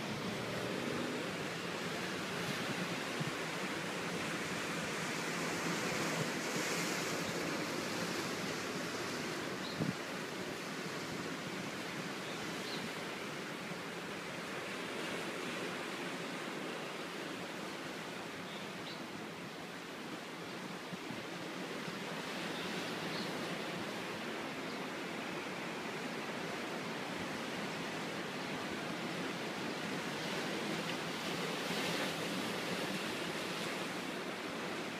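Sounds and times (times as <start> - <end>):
ocean surf on rocky shore: 0.0 - 34.9.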